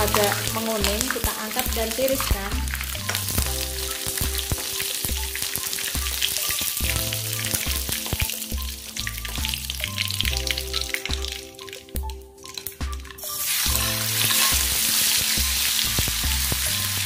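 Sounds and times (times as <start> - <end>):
background music with bass line: 0.0 - 17.0
tofu sizzling in hot oil: 0.0 - 17.0.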